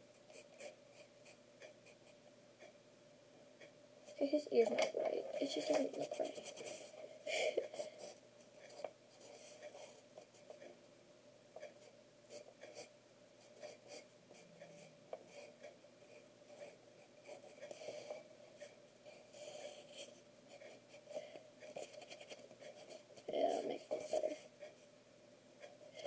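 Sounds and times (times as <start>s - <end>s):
pencil scratching on paper: 0.2s - 2.7s, 4.1s - 7.0s, 7.6s - 10.7s, 11.6s - 24.9s.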